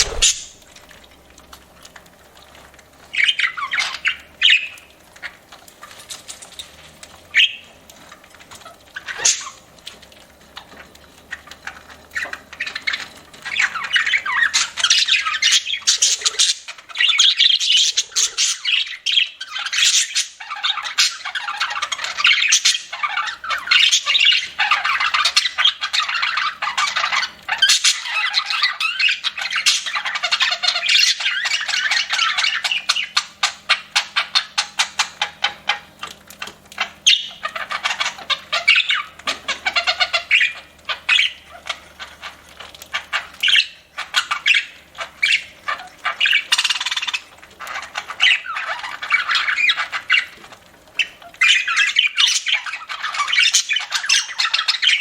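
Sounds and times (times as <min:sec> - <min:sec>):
budgerigars chattering and squawking: 0:00.0 - 0:00.6, 0:03.1 - 0:05.4, 0:07.3 - 0:07.7, 0:08.6 - 0:09.7, 0:11.3 - 0:55.0.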